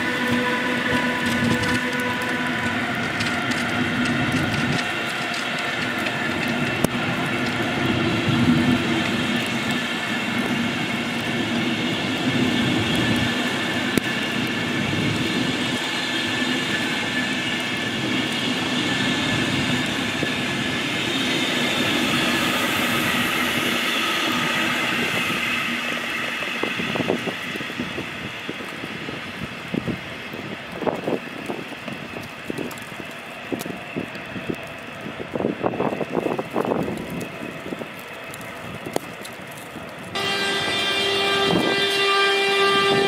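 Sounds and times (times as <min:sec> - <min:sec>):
high whine of train: 0:00.0 - 0:43.0
train wheels rumbling on rails: 0:00.0 - 0:43.0.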